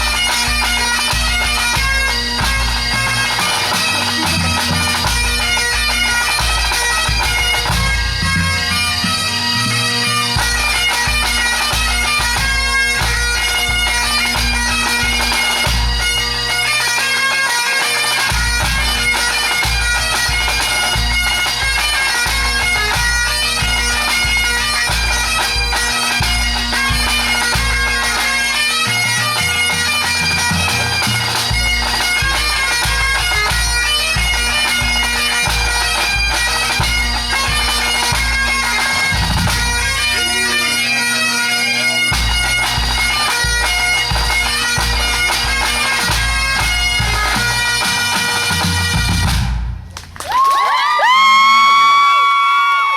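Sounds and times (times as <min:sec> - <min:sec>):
drums beating: 0:00.0 - 0:16.5, 0:18.2 - 0:51.6
bagpipes playing a melody: 0:00.0 - 0:49.8.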